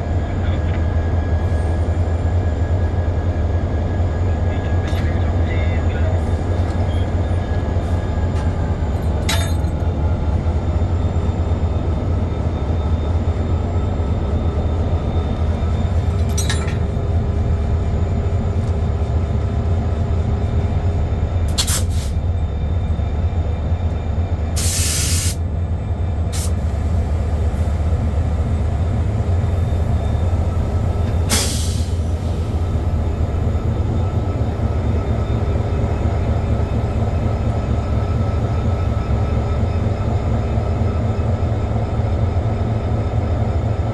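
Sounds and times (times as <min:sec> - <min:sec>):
diesel locomotive engine rumbling: 0:00.0 - 0:43.9.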